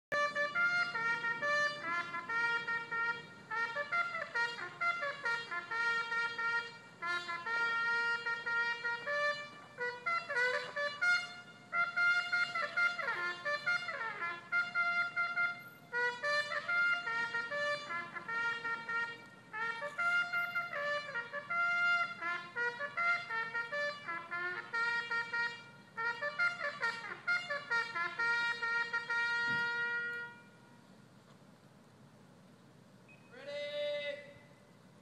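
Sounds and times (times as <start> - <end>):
bugle call: 0.1 - 30.7.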